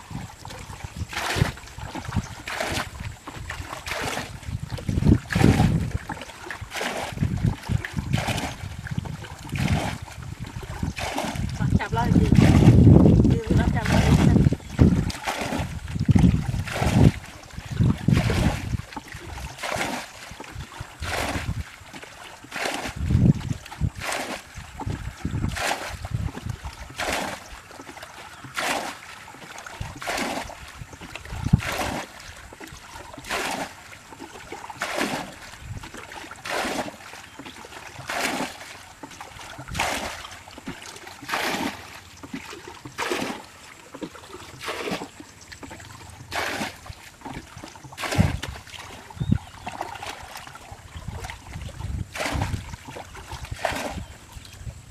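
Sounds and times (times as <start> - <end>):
bucket scooping and splashing water: 0.0 - 54.9.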